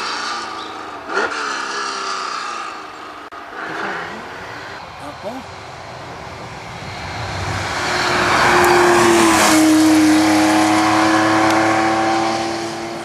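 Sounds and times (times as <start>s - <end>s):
car engine passing at speed: 0.0s - 13.0s
road noise: 0.0s - 13.0s.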